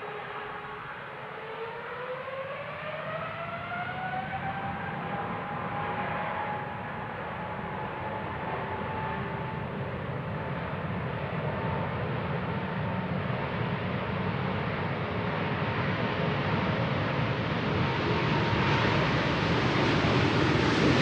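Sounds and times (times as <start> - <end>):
jet engine rumble with whine: 0.0 - 21.0.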